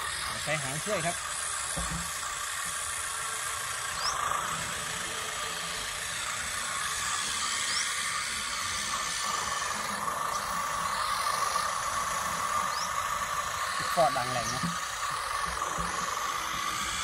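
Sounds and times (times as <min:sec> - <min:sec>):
blade pushing soil: 0:00.0 - 0:17.0
model tractor engine sound: 0:00.0 - 0:17.0.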